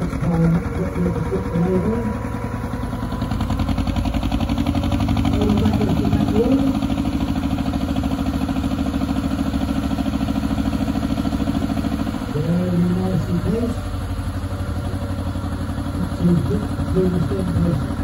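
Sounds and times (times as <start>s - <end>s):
boat engine beating steadily: 0.0s - 18.0s.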